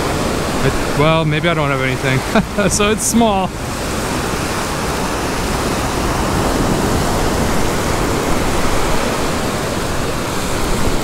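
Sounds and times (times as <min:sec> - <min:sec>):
small surf washing onto beach: 0:00.0 - 0:11.0.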